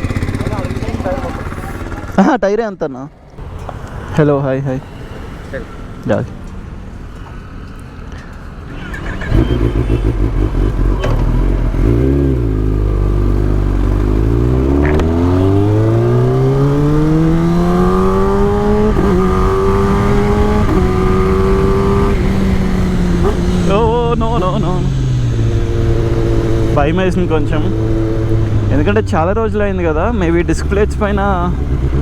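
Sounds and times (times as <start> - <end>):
motorcycle engine accelerating: 0.0 - 2.4, 8.7 - 32.0.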